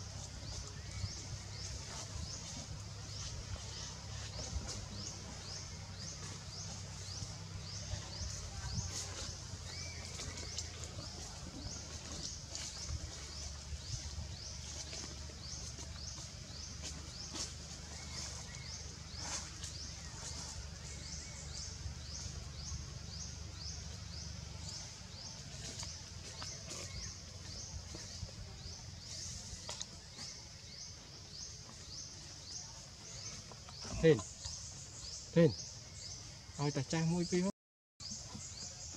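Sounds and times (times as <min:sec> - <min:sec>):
steady low rumble: 0:00.0 - 0:33.5.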